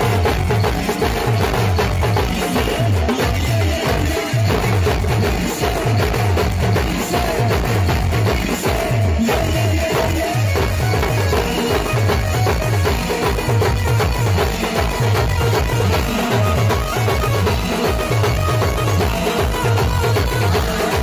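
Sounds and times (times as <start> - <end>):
large drums beating: 0.0 - 21.0.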